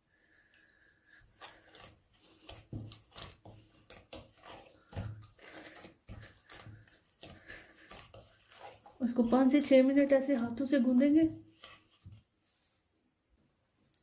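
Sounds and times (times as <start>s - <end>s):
hands kneading dough in a bowl: 0.3s - 12.9s.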